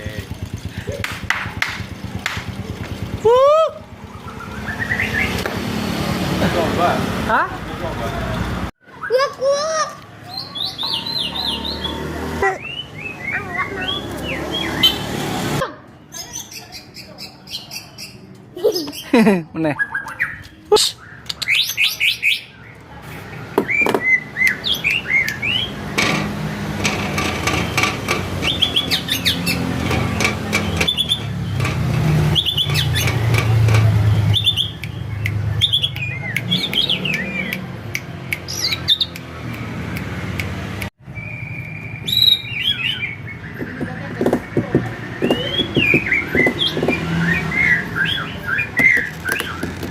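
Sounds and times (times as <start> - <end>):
songbird singing: 1.8 - 5.6, 8.8 - 15.2, 15.9 - 39.4, 41.0 - 49.9.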